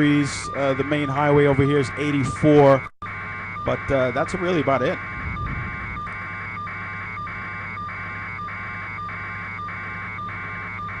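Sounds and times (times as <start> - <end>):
pulsing high electronic tones: 0.0 - 11.0
steady low hum: 0.0 - 11.0.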